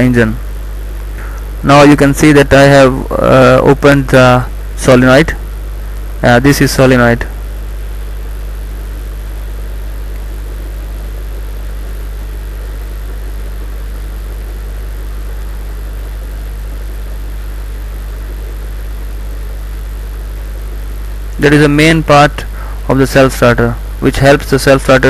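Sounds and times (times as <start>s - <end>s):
even hiss: 0.0s - 25.0s
steady low hum: 0.0s - 25.0s.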